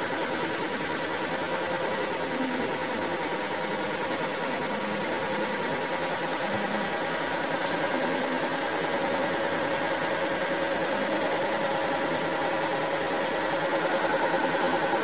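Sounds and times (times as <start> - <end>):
electric fan motor humming: 0.0 - 15.0.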